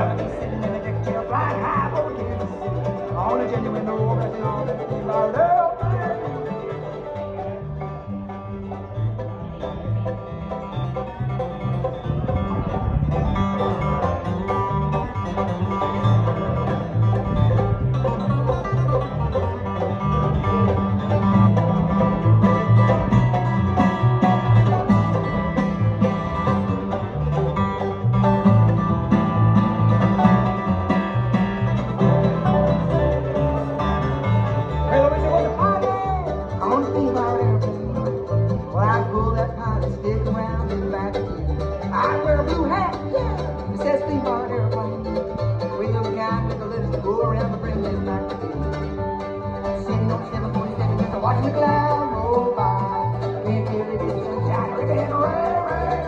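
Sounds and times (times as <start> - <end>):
bluegrass band playing: 0.0 - 56.0
upright bass line: 0.0 - 56.0.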